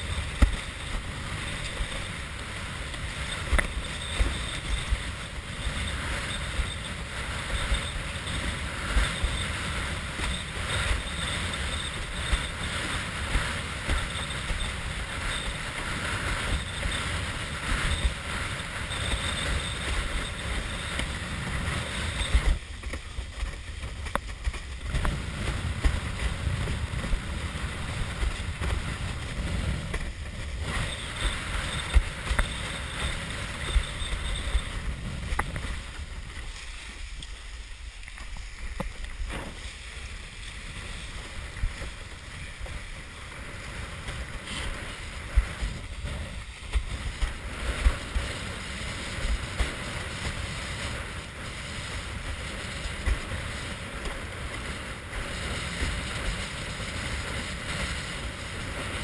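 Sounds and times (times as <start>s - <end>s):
wind buffeting microphone: 0.0s - 59.0s
water rushing and slapping: 9.7s - 59.0s.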